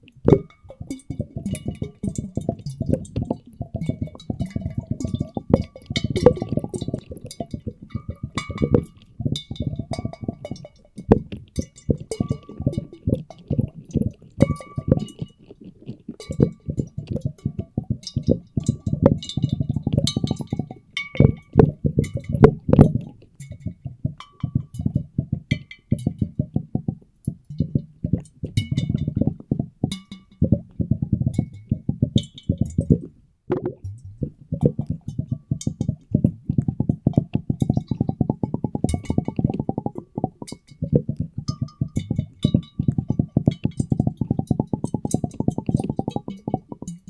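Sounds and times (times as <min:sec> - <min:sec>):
muffled underwater water sloshing: 0:00.0 - 0:47.0
water swirled in glass bottles: 0:00.0 - 0:47.0.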